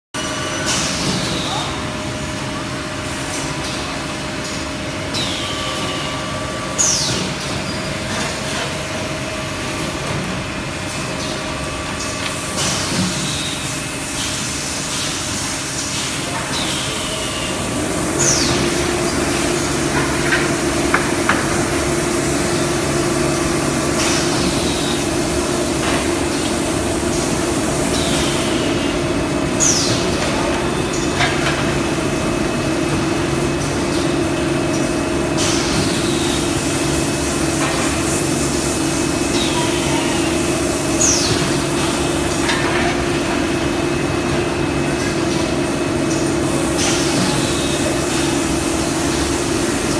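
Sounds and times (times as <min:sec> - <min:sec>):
steady machine hum: 0:00.2 - 0:49.9.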